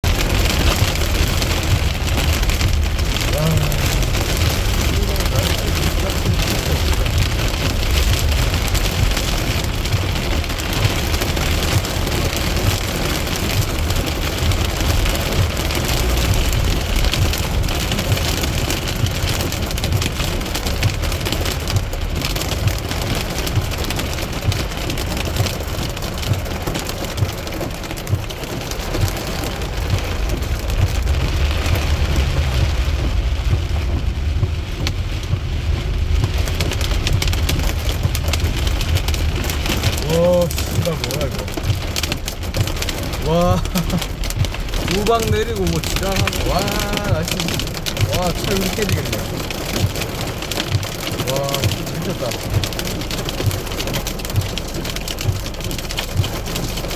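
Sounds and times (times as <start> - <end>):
hail and rain pelting down: 0.0 - 56.9.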